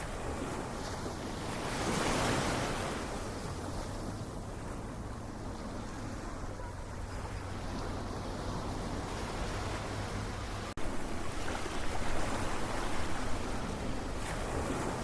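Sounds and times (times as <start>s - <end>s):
surf washing: 0.0s - 15.0s.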